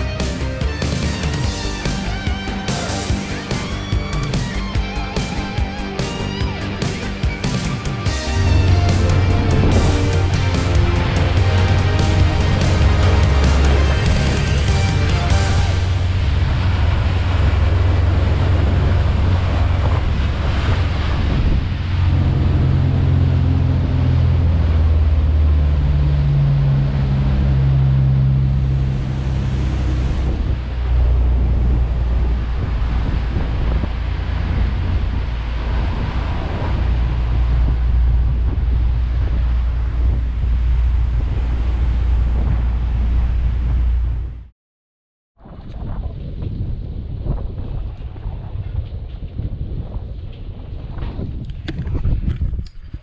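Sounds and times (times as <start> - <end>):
boat engines droning: 0.0 - 44.4
water rushing along hull: 0.0 - 44.5
wind buffeting microphone: 6.4 - 14.8, 15.4 - 44.4, 45.4 - 53.0.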